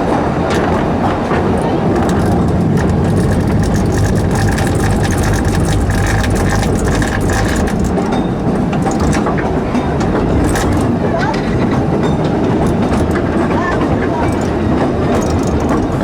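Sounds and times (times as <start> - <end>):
steam train rumbling: 0.0 - 16.0
wheel and rail clicks: 0.0 - 16.0.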